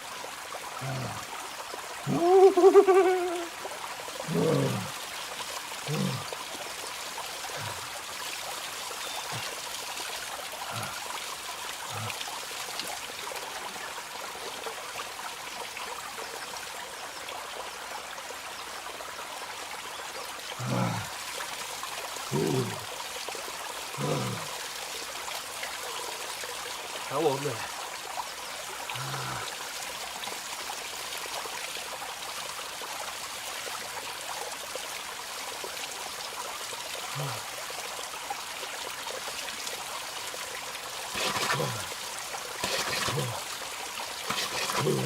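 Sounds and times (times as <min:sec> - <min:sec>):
small waterfall splashing: 0:00.0 - 0:45.0.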